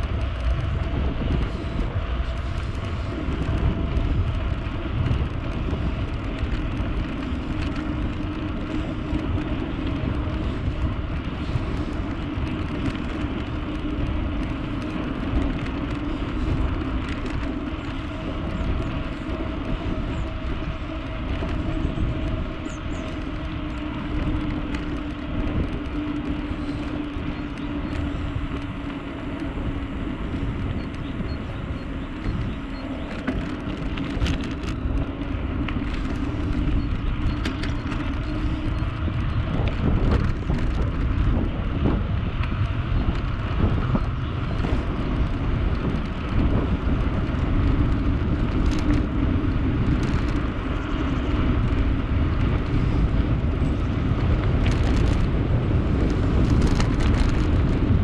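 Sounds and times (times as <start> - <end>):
low vehicle rumble: 0.0 - 58.0.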